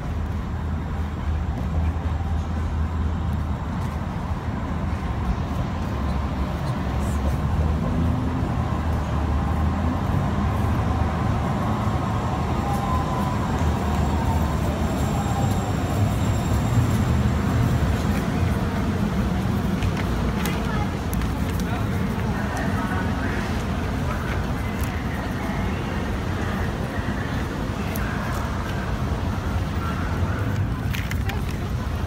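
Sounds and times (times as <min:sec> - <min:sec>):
light-rail train rumble: 0:00.0 - 0:32.0
street noise: 0:00.0 - 0:32.0.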